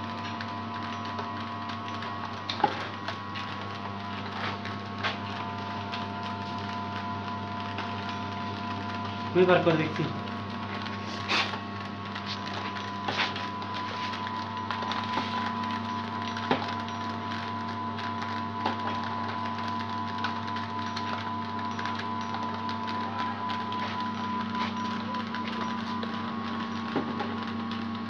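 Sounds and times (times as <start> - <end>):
machine motor hum and whine: 0.0 - 28.0.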